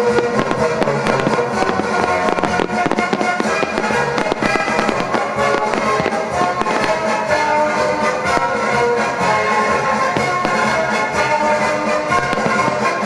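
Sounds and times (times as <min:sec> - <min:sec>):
fireworks bangs and crackles: 0:00.0 - 0:13.0
loud music with held tones: 0:00.0 - 0:13.0.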